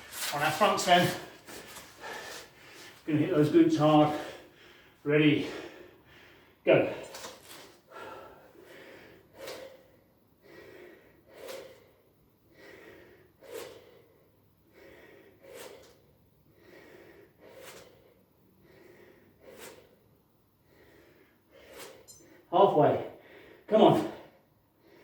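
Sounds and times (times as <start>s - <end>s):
person breathing hard: 0.0s - 3.1s, 3.9s - 22.5s, 23.1s - 25.0s.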